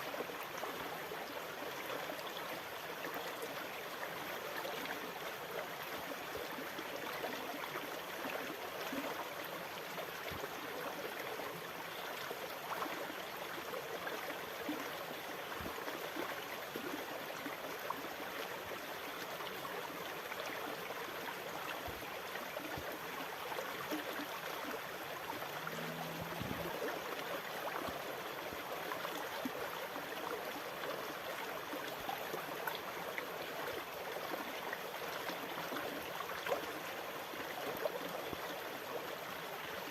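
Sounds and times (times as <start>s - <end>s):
moving water: 0.0s - 39.9s.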